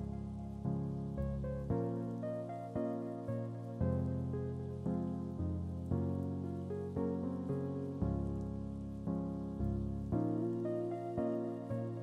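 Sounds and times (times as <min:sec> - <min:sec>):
soft sustained background music: 0:00.0 - 0:12.0.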